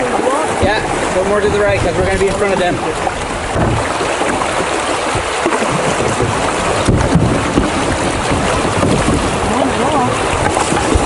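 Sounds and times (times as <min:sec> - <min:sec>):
river water rushing: 0:00.0 - 0:11.0
wind on microphone: 0:00.1 - 0:11.0.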